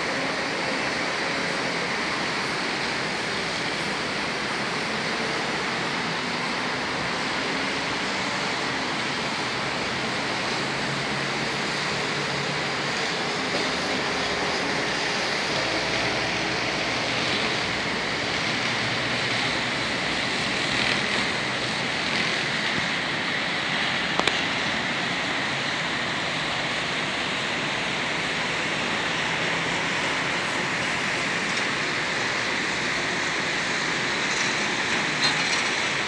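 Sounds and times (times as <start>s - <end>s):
distant city traffic: 0.0s - 36.0s.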